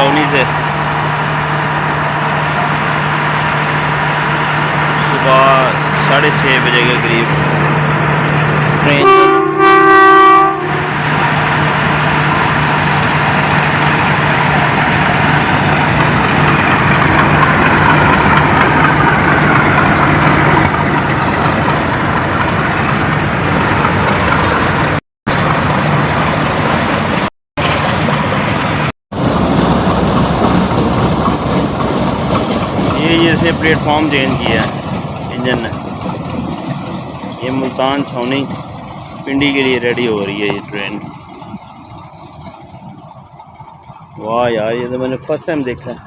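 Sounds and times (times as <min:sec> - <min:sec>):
diesel locomotive low hum: 0:00.0 - 0:46.0
rushing noise of moving train: 0:00.0 - 0:46.0.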